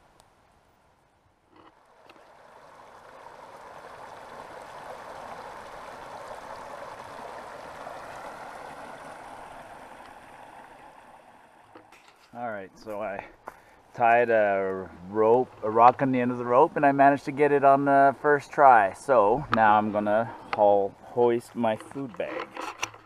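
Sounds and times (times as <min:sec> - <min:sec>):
creek water gurgling over ledge: 0:01.6 - 0:22.7.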